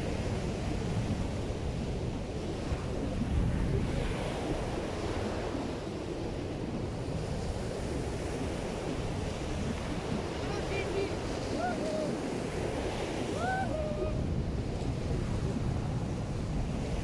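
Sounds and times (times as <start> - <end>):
waves breaking on a beach: 0.0 - 17.0
wind buffeting microphone: 0.0 - 17.0.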